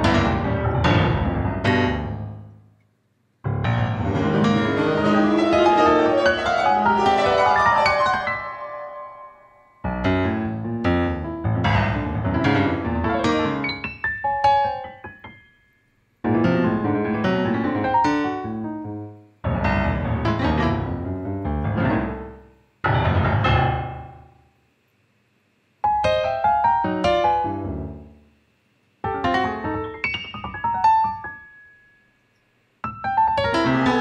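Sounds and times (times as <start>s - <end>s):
piano notes: 0.0s - 2.8s, 3.4s - 24.5s, 25.8s - 28.2s, 29.0s - 34.0s.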